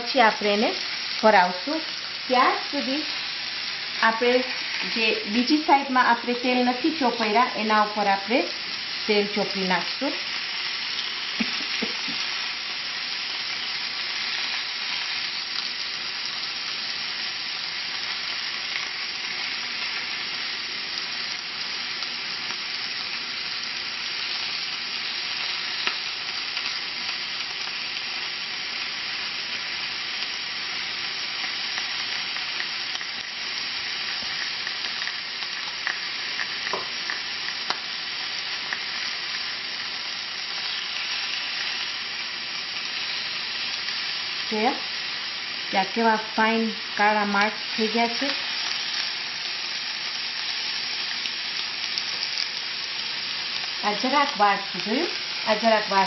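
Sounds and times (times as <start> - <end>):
chicken sizzling on grill pan: 0.0 - 56.0.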